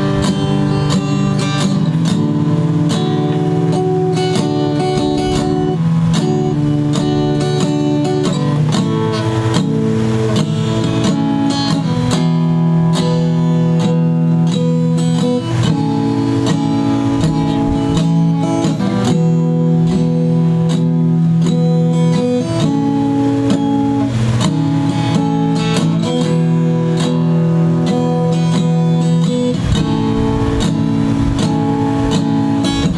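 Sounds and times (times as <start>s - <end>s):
acoustic guitar chords strummed: 0.0s - 32.9s.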